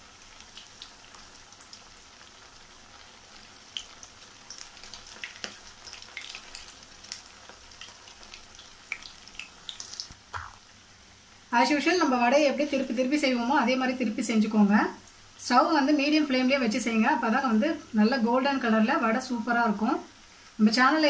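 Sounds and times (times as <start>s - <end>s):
fritters deep-frying in oil: 0.0s - 10.7s, 11.4s - 21.0s.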